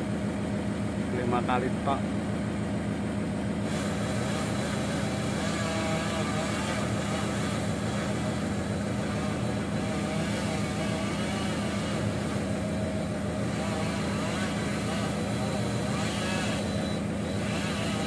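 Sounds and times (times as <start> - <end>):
diesel engine running: 0.0 - 18.0
chainsaw cutting tree: 3.5 - 18.0.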